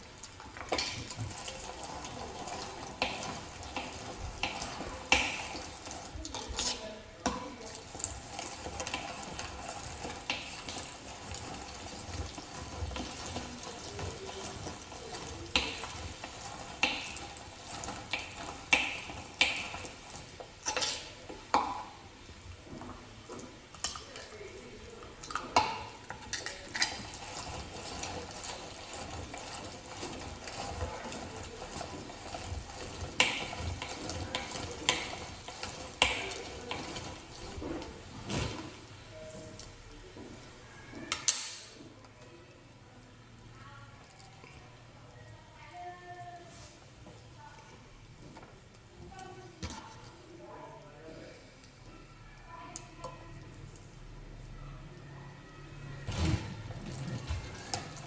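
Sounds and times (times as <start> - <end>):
light scraping stirring: 0.0 - 22.0, 22.6 - 42.3, 46.1 - 54.6, 55.9 - 58.0.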